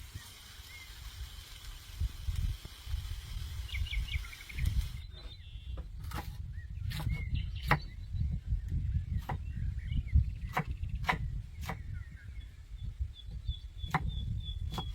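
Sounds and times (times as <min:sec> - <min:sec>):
small birds chirping: 0:00.0 - 0:14.9
wind rumble on microphone: 0:00.0 - 0:14.9.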